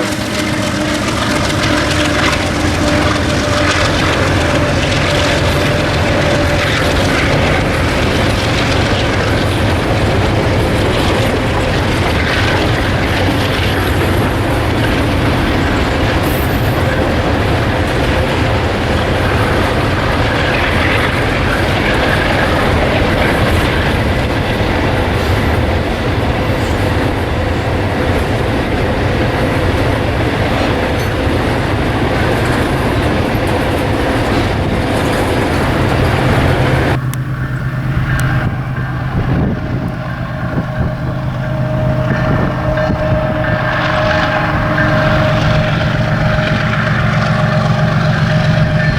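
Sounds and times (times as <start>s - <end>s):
freight train wheels on rails: 0.0s - 48.9s.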